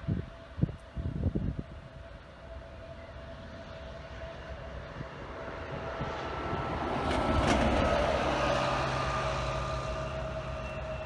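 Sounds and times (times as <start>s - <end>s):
jet engines whining and rumbling: 0.0s - 11.0s.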